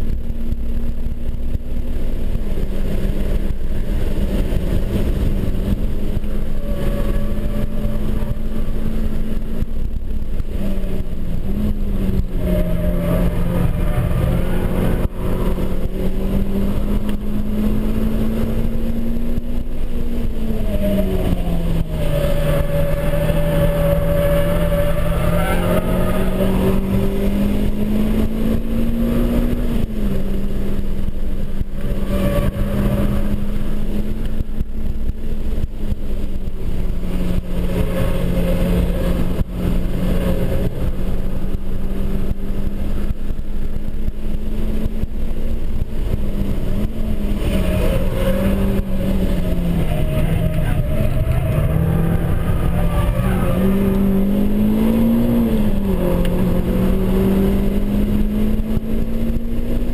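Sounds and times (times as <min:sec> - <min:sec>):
car engine pulling hard: 0:00.0 - 0:59.9
road and wind noise: 0:00.0 - 0:59.9.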